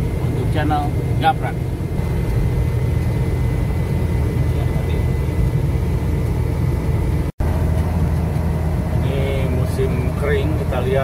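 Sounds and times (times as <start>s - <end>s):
car cabin engine and road noise: 0.0s - 11.0s.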